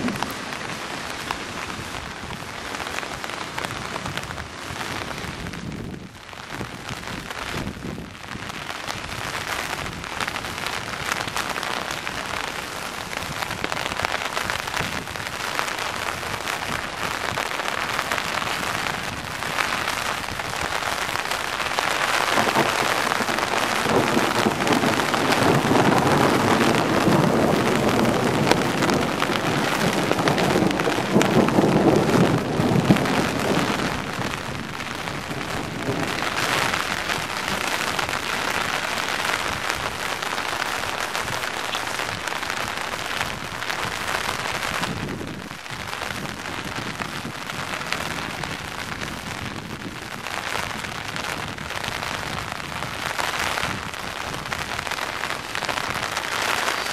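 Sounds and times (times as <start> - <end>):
heavy rain: 0.0 - 56.9
rain on an umbrella: 0.0 - 56.9.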